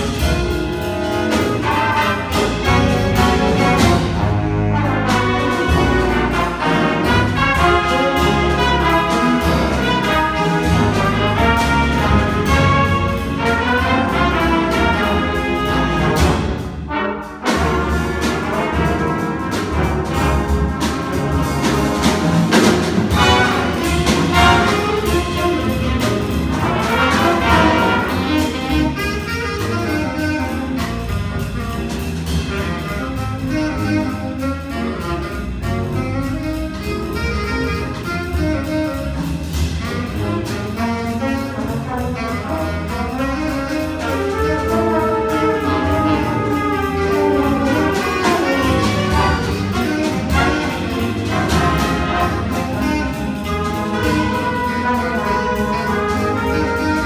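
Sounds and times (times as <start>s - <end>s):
jazz big band playing swing: 0.0s - 57.0s
steady cymbal beat: 0.0s - 57.0s.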